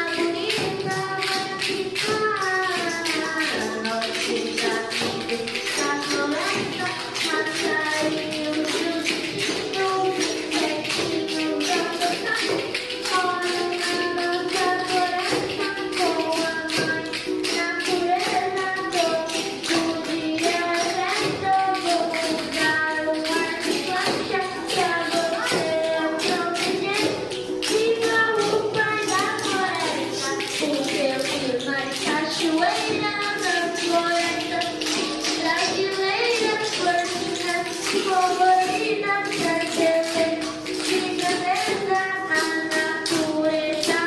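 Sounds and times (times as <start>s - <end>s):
tapped percussion beat: 0.0s - 44.0s
young voices singing: 0.0s - 44.0s.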